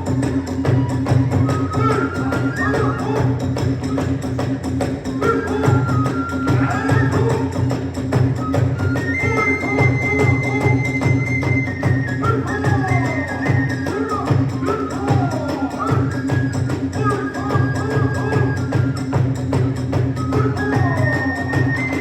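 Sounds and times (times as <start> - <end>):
bamboo flute: 0.0 - 22.0
drums: 0.0 - 22.0.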